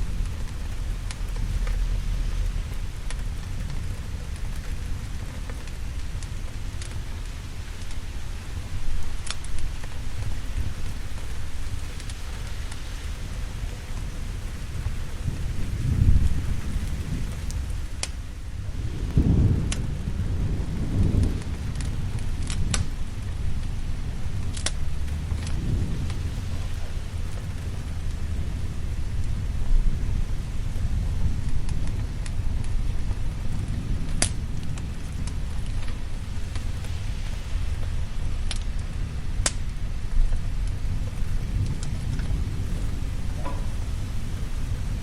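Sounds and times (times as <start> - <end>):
heavy rain: 0.0 - 45.0
sharp crackles: 0.0 - 45.0
thunder rumbling: 0.0 - 45.0.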